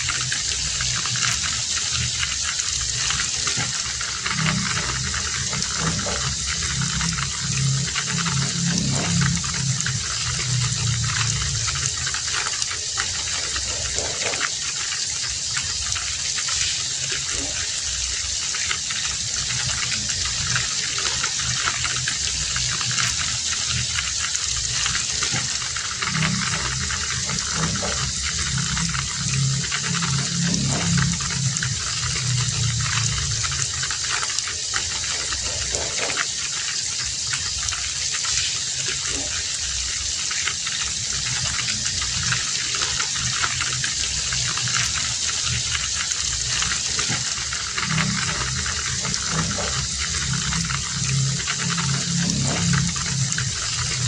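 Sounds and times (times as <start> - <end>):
heavy rain falling: 0.0 - 54.0
low rumble: 0.2 - 14.5, 19.1 - 36.1, 41.2 - 54.0.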